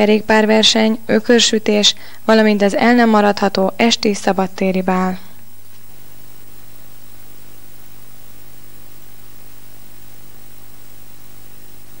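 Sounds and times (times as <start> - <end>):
low mains hum: 0.0 - 12.0
tape hiss: 0.0 - 12.0.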